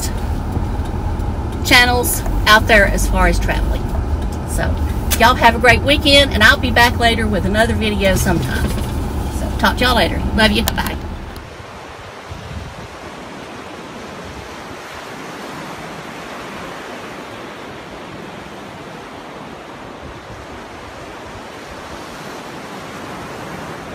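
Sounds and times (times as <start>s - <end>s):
ocean surf washing onto beach: 0.0s - 23.9s.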